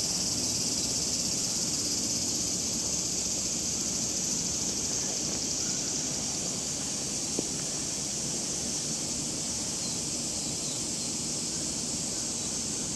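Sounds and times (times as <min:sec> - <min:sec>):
high-pitched hiss: 0:00.0 - 0:12.9.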